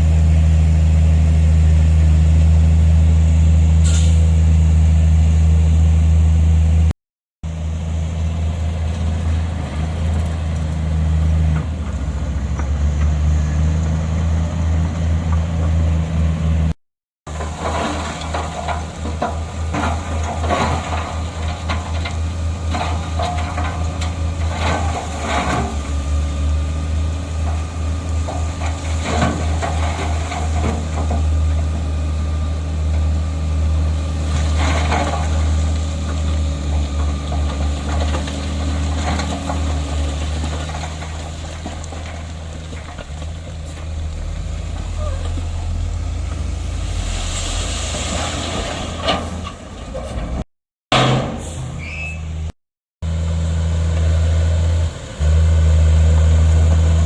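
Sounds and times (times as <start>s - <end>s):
diesel machinery engine droning: 0.0s - 50.4s, 51.0s - 57.0s.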